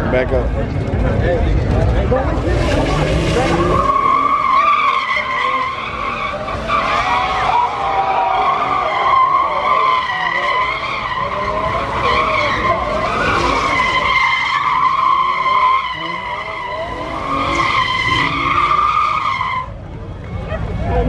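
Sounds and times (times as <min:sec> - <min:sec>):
car engine revving: 0:01.0 - 0:19.8
car tires squealing: 0:02.3 - 0:19.8.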